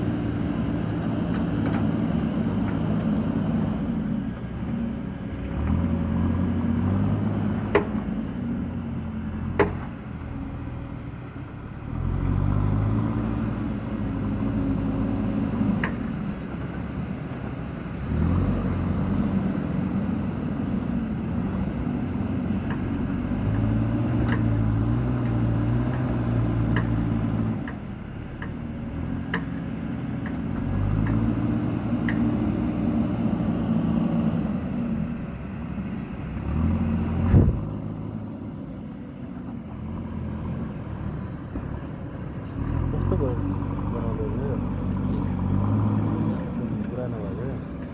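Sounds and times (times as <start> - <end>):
diesel engine revving under load: 0.0 - 10.8, 11.6 - 47.9.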